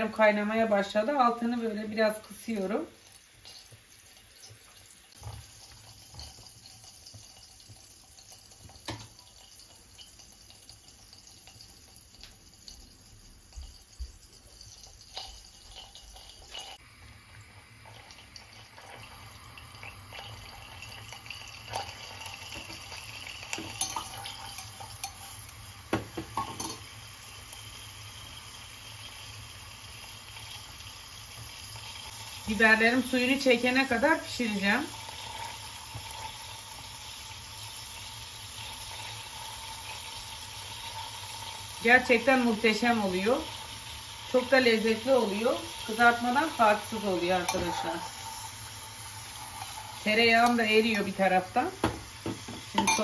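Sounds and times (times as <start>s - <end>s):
peppers simmering in water: 0.0s - 53.0s.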